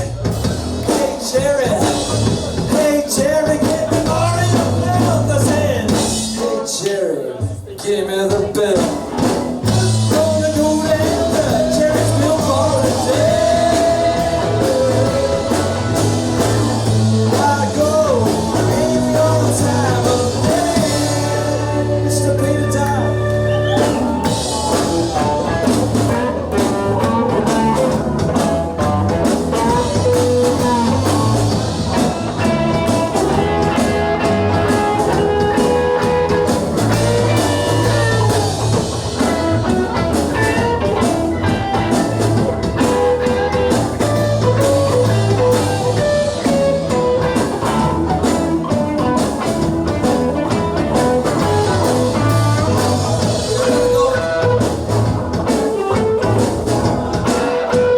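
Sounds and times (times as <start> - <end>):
bass guitar: 0.0 - 57.9
drum kit: 0.0 - 57.9
lead guitar: 8.3 - 57.9.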